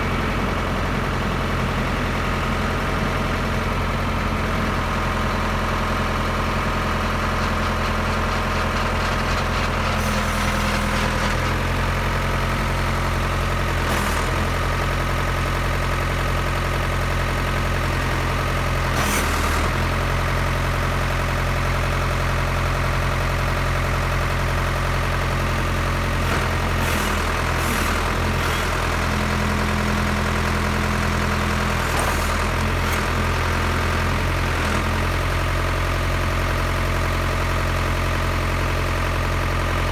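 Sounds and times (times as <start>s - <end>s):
diesel engine idling: 0.0s - 18.9s, 19.8s - 39.9s.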